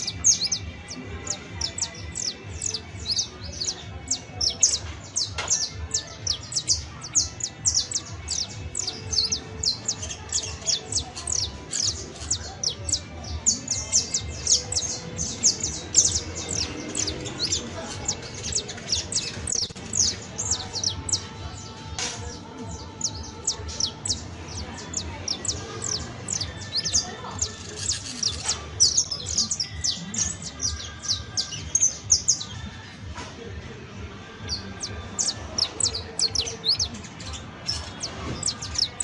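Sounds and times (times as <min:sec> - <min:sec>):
finch singing: 0:00.0 - 0:39.0.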